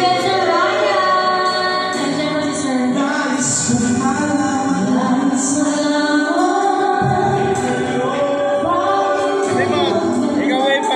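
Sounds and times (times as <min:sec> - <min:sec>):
people singing love song: 0:00.0 - 0:10.9.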